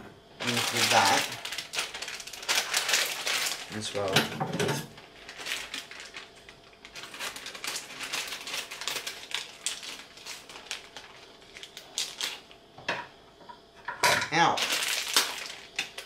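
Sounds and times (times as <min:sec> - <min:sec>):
plastic bag crinkling: 0:00.4 - 0:04.2, 0:04.9 - 0:12.6, 0:14.4 - 0:16.0.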